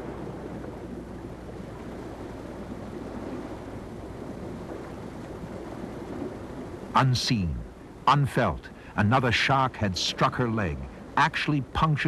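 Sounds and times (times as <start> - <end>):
faint low hum: 0.0 - 12.0
wind and sea rushing: 0.0 - 12.0.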